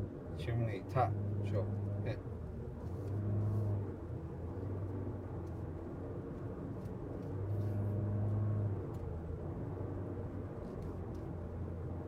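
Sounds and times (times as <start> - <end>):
car engine hum and road rumble: 0.0 - 12.0.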